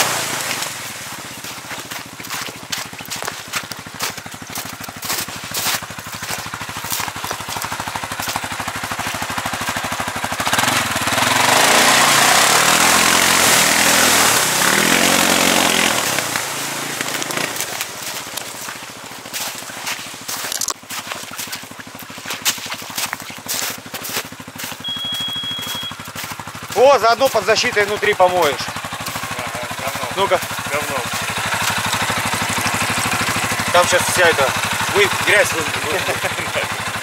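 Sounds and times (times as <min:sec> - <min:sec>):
atv engine idling: 0:00.0 - 0:37.0.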